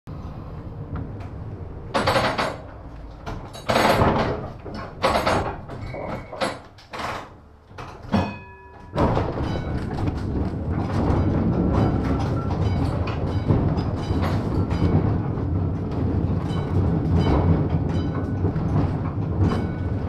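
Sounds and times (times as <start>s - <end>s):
tram knocks and clanks: 0.1s - 20.0s
tram running rumble: 0.1s - 20.0s.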